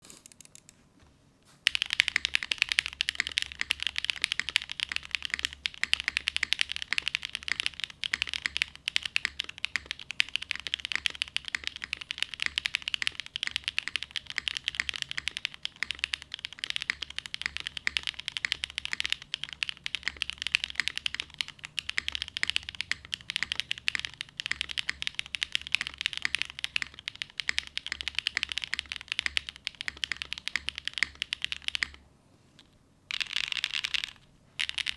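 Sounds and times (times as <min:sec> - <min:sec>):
fast mechanical keyboard typing: 0:01.6 - 0:32.0, 0:33.1 - 0:34.9.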